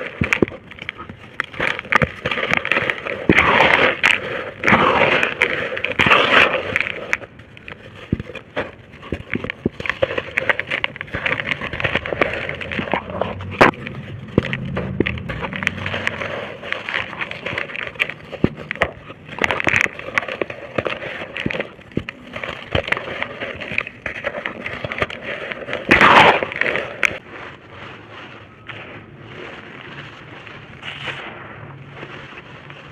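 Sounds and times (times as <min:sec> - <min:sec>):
dry brick-dirt crunching and crumbling: 0:00.0 - 0:32.9.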